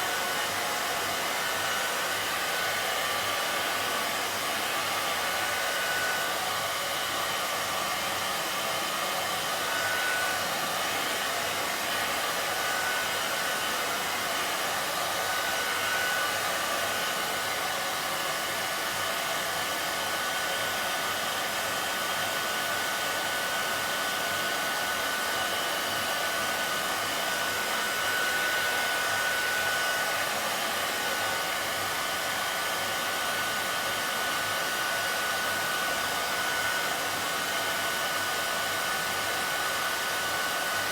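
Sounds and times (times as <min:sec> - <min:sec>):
hairdryer blowing air: 0:00.0 - 0:40.9.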